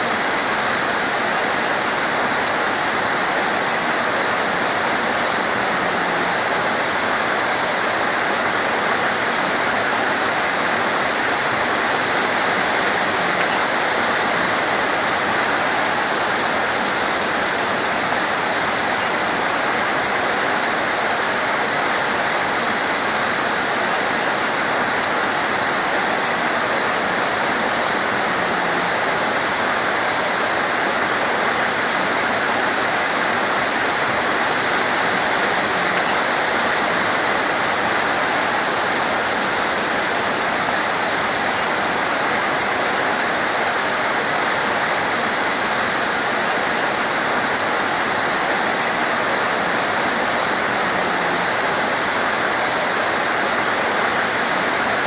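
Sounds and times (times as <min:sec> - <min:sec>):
torrential rain pouring: 0:00.0 - 0:55.0.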